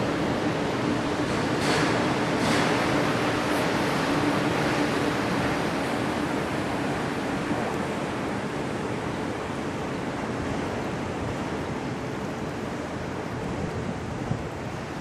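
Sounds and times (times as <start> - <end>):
choppy lake water: 0.0 - 15.0
faint low ship hum: 0.0 - 15.0
wind on microphone: 0.0 - 15.0.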